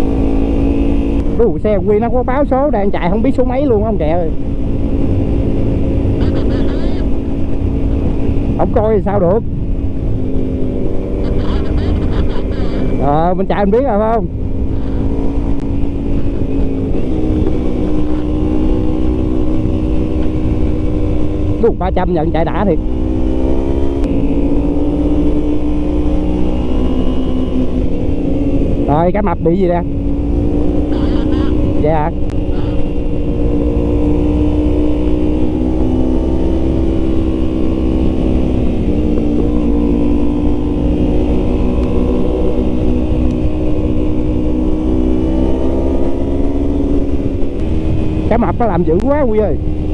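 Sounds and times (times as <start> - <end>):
motorcycle engine running: 0.0 - 49.9
wind rumbling on microphone: 0.0 - 49.9.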